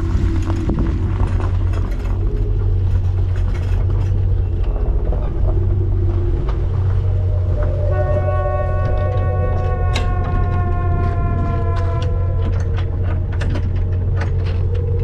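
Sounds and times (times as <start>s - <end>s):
low mechanical rumble: 0.0s - 15.0s
clicking and rattling: 0.2s - 6.6s, 8.8s - 15.0s.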